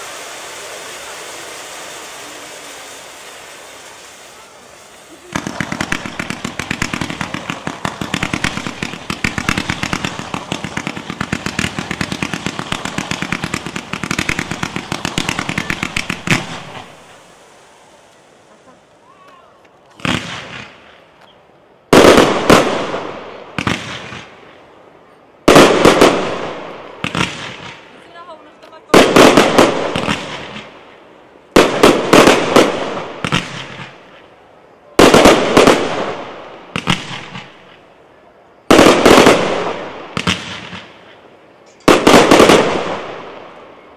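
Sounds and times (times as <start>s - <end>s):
firework battery shots: 0.0s - 21.2s, 21.8s - 24.7s, 25.4s - 43.9s.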